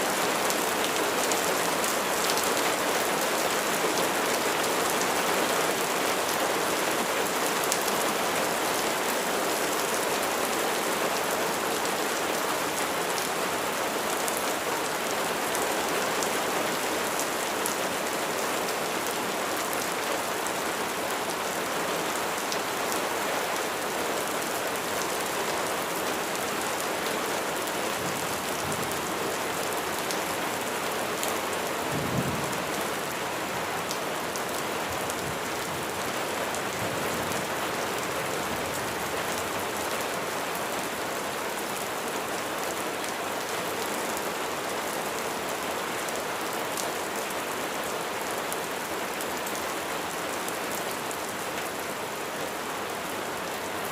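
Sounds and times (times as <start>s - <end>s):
rain falling on a surface: 0.0s - 53.9s.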